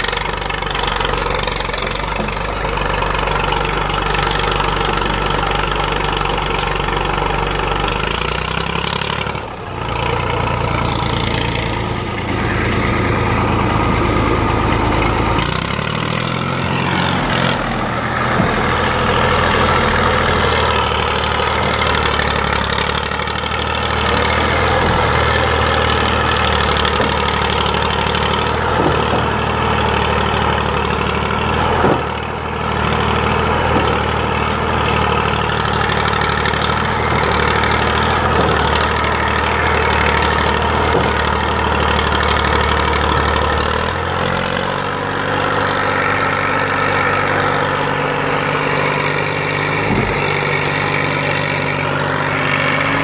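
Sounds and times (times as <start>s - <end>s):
tractor diesel engine running hard: 0.0s - 53.0s.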